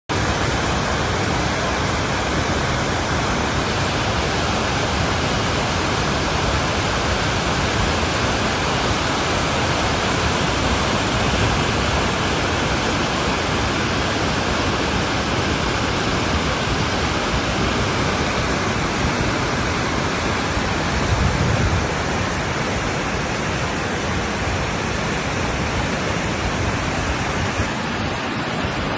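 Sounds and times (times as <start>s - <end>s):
rushing water: 0.1s - 28.9s.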